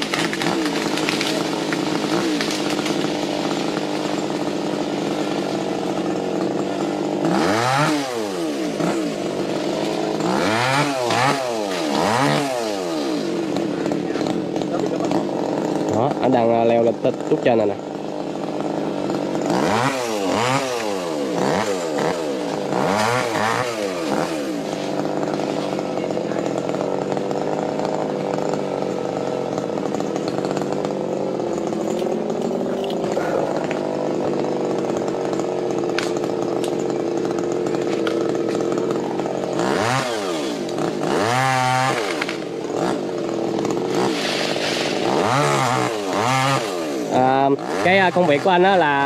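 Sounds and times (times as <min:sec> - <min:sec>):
chainsaw revving: 0:00.0 - 0:49.0.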